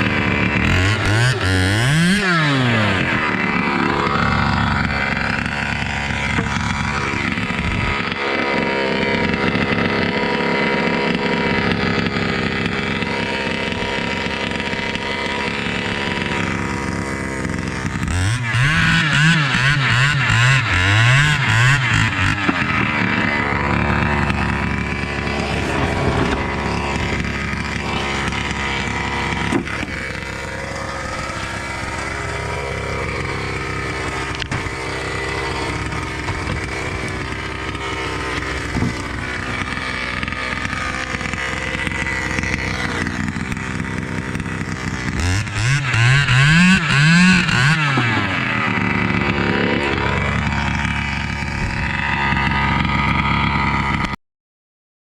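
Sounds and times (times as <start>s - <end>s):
chainsaw engine revving: 0.0s - 54.2s.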